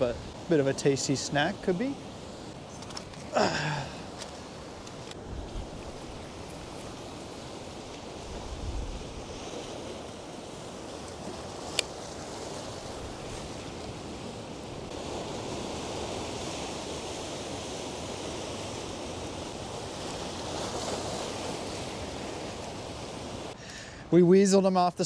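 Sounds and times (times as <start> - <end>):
ocean surf breaking on rocks: 0.0 - 23.6.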